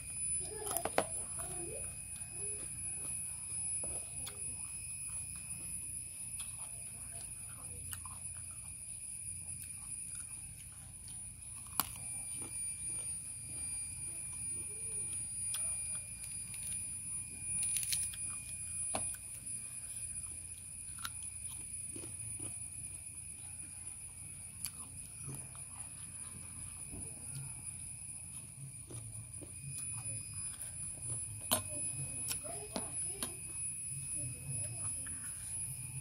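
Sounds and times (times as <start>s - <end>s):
insects buzzing: 0.0s - 36.0s
faint chewing: 0.4s - 36.0s.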